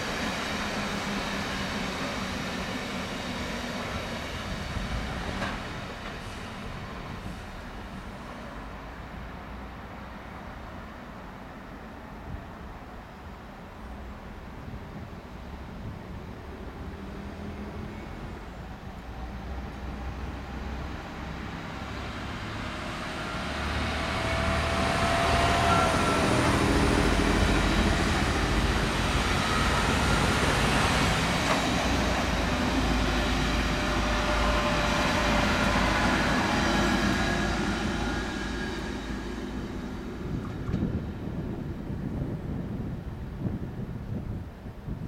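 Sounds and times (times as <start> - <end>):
train passing close by: 0.0 - 45.0.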